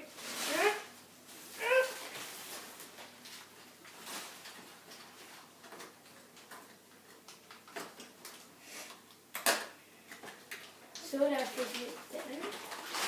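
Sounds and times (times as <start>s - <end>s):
packaging rustling: 0.1s - 8.5s, 10.4s - 13.0s.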